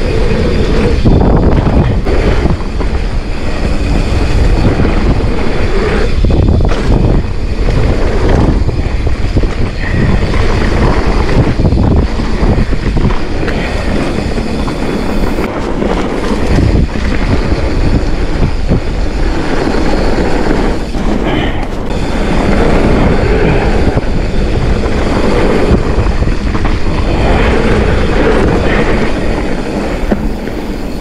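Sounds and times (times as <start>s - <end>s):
bike rattling over dirt trail: 0.0s - 31.0s
wind buffeting microphone: 0.0s - 31.0s.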